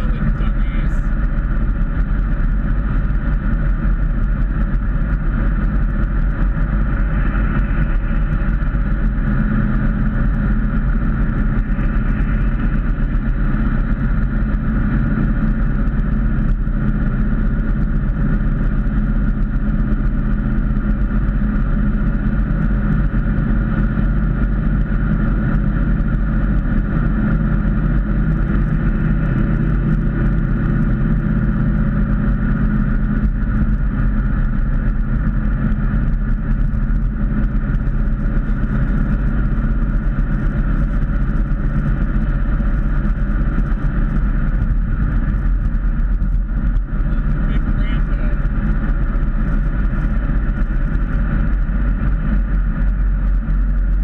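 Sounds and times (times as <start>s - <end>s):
car engine drone: 0.0s - 54.0s
road and tyre noise: 0.0s - 54.0s.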